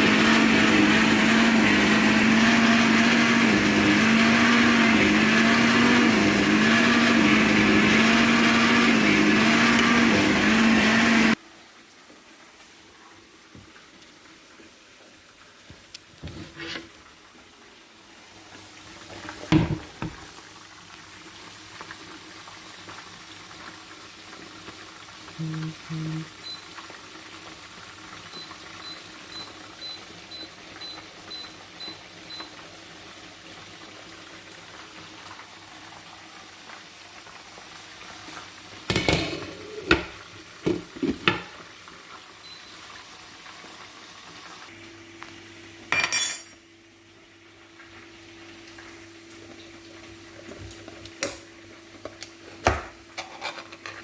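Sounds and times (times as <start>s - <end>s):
stew boiling in a pot: 0.0s - 45.9s, 46.8s - 53.2s.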